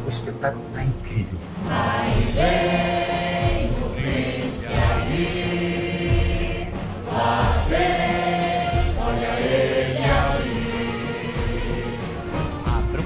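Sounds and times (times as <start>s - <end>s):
music: 0.0s - 13.0s
choir singing held chords: 1.5s - 12.7s.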